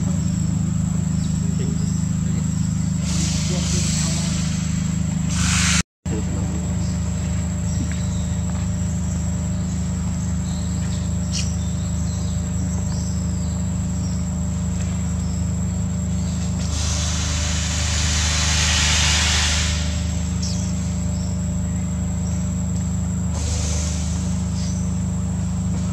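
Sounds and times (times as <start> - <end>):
constant low hum: 0.0 - 25.9
high-pitched insect drone: 0.0 - 25.9.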